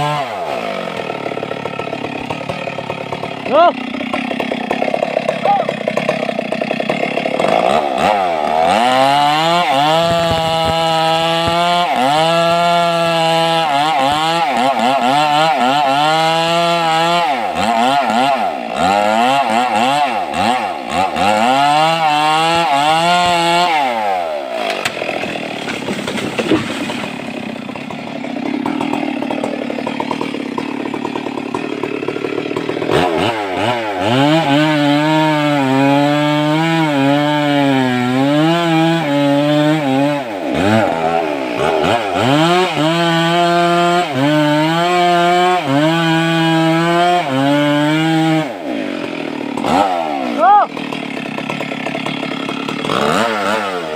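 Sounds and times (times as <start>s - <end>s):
chainsaw revving cutting wood: 0.0s - 53.9s.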